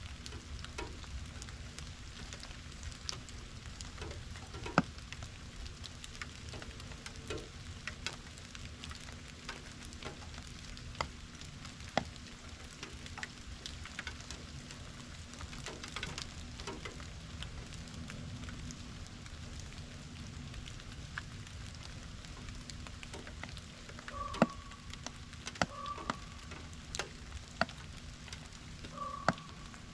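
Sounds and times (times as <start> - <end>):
rain drops pattering: 0.0 - 29.9.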